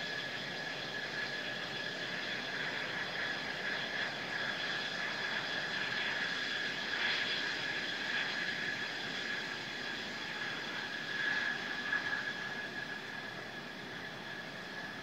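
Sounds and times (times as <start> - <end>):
jet engine high whine: 0.0 - 15.0.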